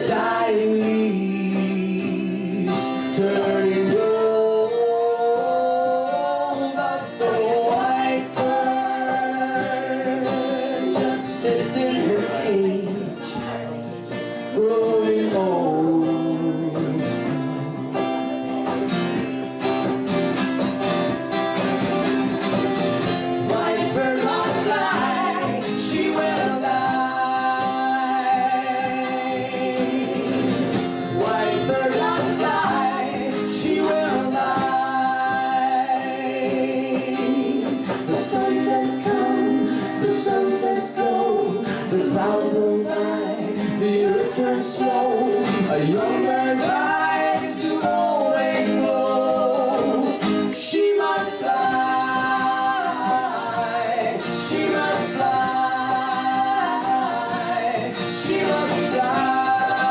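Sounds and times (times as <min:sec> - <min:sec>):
person singing: 0:00.0 - 0:18.5, 0:23.1 - 0:59.9
guitar accompaniment: 0:00.0 - 0:59.9.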